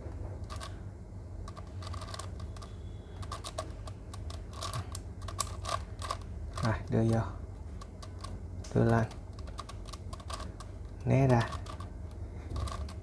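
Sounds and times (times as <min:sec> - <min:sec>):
plastic puzzle clicking as turned: 0:01.5 - 0:06.7, 0:07.8 - 0:13.0.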